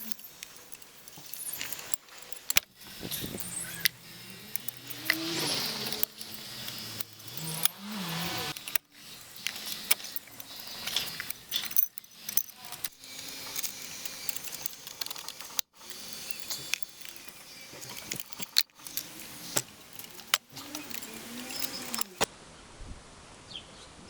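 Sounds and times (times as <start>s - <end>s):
metal tools clinking and clattering: 0.0s - 22.3s.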